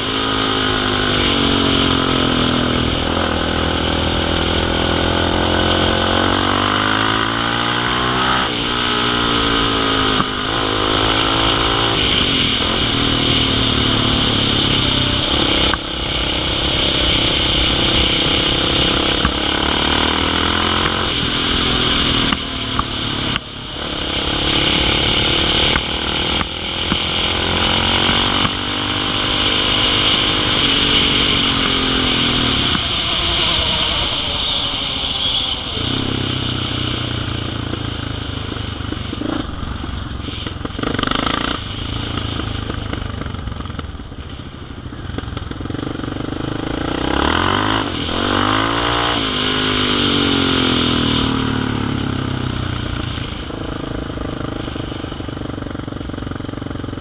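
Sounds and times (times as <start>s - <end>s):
quad bike engine revving: 0.0s - 44.4s, 45.1s - 57.0s.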